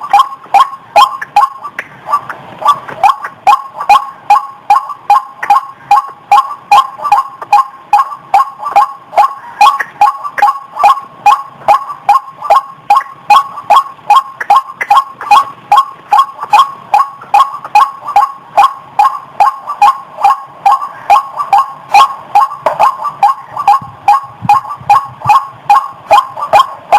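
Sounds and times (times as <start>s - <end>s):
bird calling nasal wak notes: 0.0s - 26.9s.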